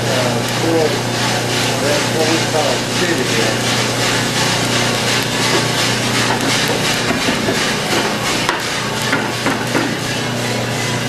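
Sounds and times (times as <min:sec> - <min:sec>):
coffee beans pouring and rattling: 0:00.0 - 0:09.6
roaster fan humming: 0:00.0 - 0:11.0.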